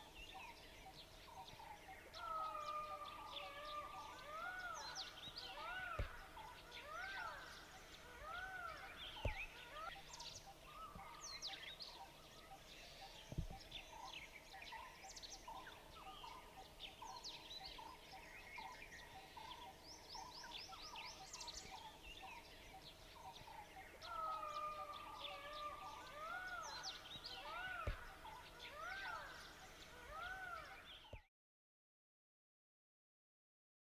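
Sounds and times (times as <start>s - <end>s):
birds calling: 0.0s - 31.3s.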